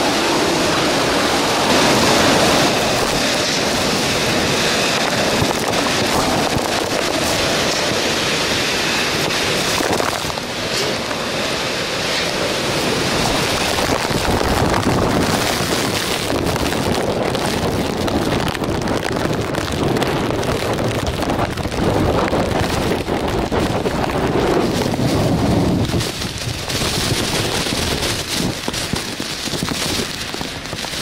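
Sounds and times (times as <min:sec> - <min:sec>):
rain: 0:00.0 - 0:31.0
strong wind buffeting microphone: 0:00.0 - 0:31.0.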